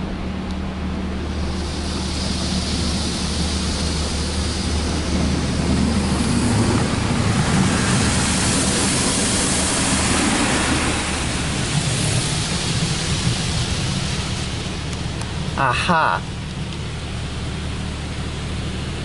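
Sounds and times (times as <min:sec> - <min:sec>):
car wash water spray rushing: 0:00.0 - 0:19.0
low hum: 0:00.0 - 0:19.0.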